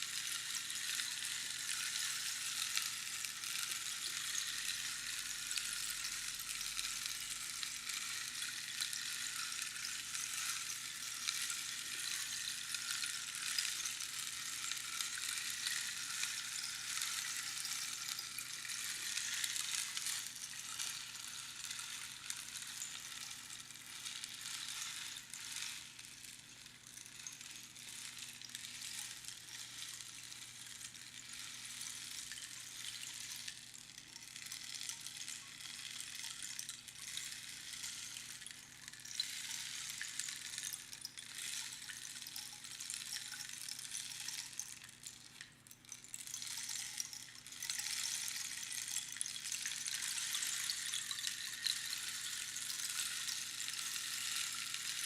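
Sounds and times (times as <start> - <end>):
rainstick patter: 0.0 - 55.0.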